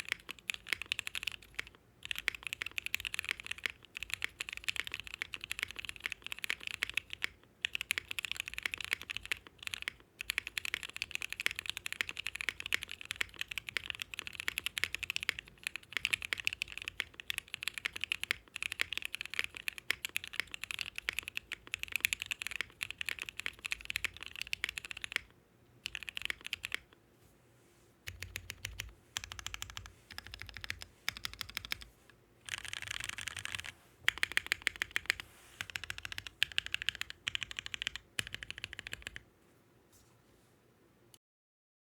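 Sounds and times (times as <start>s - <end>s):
mechanical keyboard typing: 0.0s - 27.0s, 28.1s - 31.9s, 32.5s - 39.2s.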